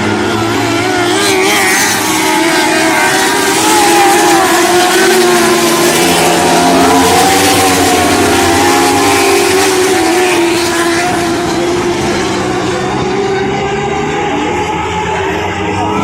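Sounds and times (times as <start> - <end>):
race car engines running hard: 0.0 - 16.0.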